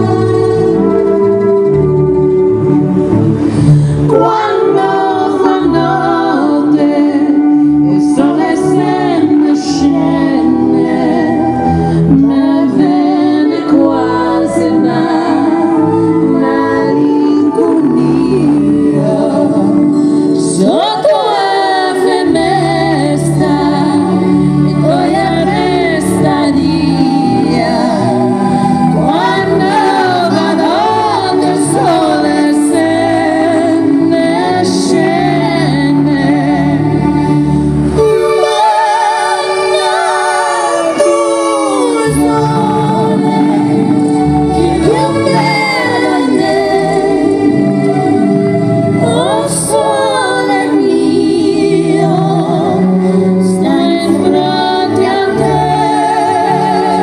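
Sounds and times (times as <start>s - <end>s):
backing band playing: 0.0s - 21.1s, 21.8s - 51.2s
female vocal trio singing: 0.0s - 57.0s.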